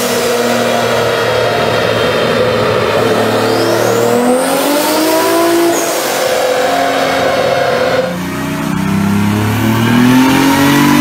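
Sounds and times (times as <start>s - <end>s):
car engine revving on dyno: 0.0s - 11.0s
high whine: 0.0s - 11.0s.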